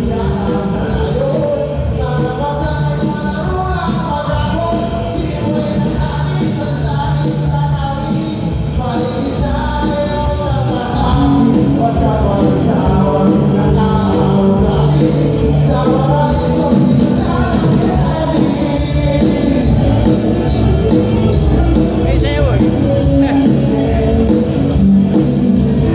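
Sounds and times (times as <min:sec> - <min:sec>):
live band with singer: 0:00.0 - 0:25.9.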